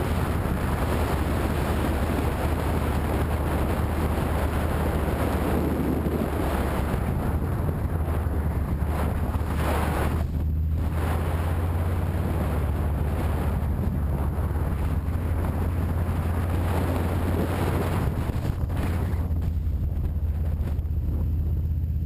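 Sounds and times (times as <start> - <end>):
motorcycle engine droning: 0.0 - 22.0
wind rushing over microphone: 0.0 - 22.0.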